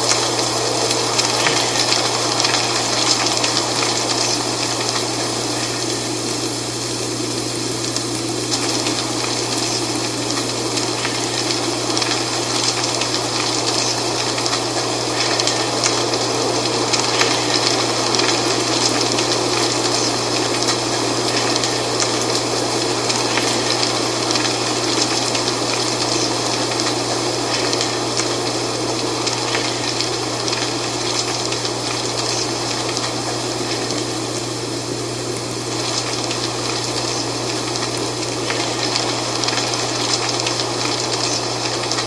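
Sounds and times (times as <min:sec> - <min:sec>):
dry leaves rustling in wind: 0:00.0 - 0:42.0.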